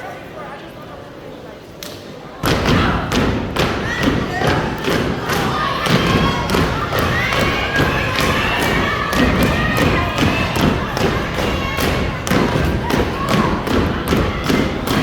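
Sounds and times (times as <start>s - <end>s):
people stomping and clapping: 2.4s - 15.0s.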